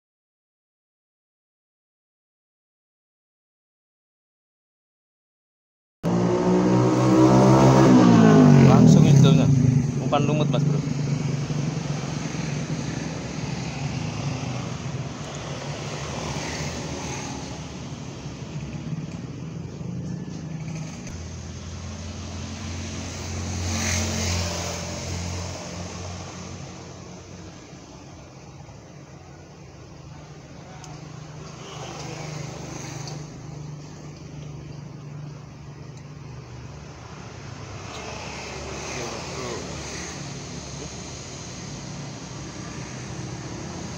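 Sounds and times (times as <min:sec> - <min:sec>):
engine low drone: 0:06.0 - 0:43.9
road traffic rushing: 0:06.0 - 0:43.9.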